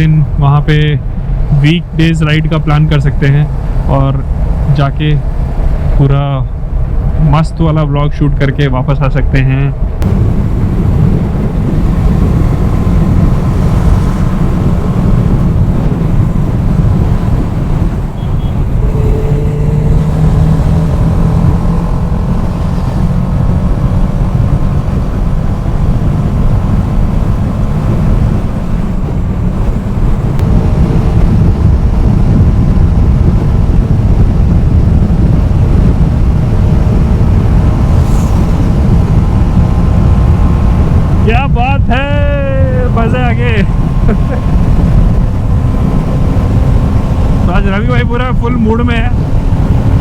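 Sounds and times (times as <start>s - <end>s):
motorcycle engine running: 9.8s - 50.0s.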